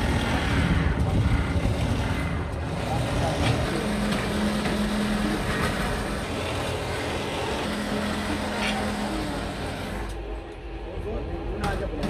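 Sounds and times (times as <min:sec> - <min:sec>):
drill press humming: 0:00.0 - 0:10.4
mechanical background noise: 0:00.0 - 0:12.0.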